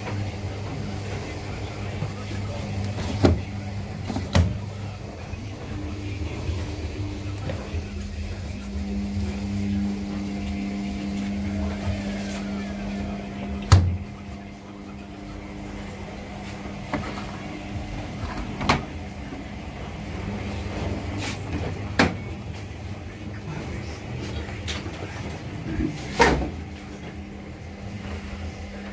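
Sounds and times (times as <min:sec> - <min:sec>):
washing machines humming: 0:00.0 - 0:28.9.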